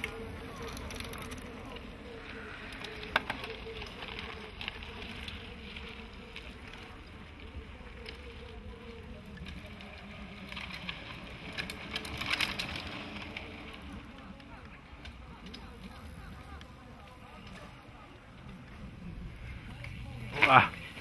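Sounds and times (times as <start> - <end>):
bike clicks and rattles: 0.0 - 21.0
bike tyres on dirt trail: 0.0 - 21.0
outdoor background noise: 0.0 - 21.0.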